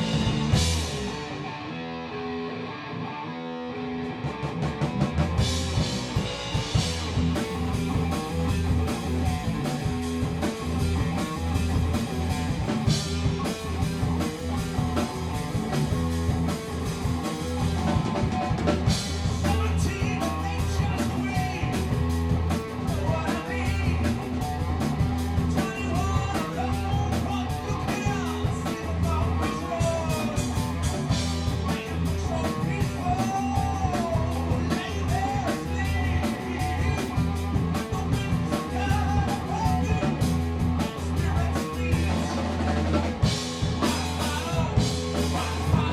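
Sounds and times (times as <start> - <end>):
drum beats: 0.0 - 1.3, 4.3 - 45.9
bass line: 0.0 - 2.8, 3.7 - 45.9
electric guitar: 0.0 - 45.9.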